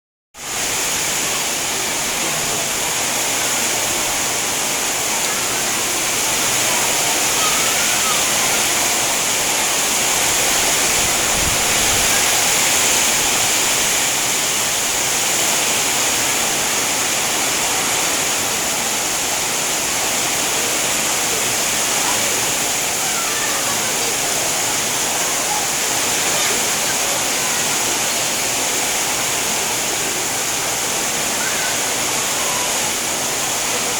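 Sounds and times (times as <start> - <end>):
heavy rain pouring: 0.4 - 33.9.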